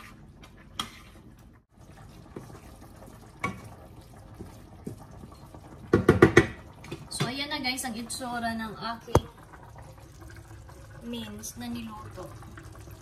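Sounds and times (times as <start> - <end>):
boiling water bubbling in pot: 0.0 - 13.0.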